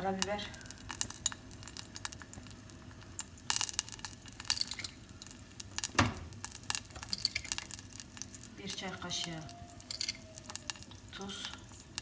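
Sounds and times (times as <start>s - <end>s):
paste frying in a pot: 0.0s - 12.0s.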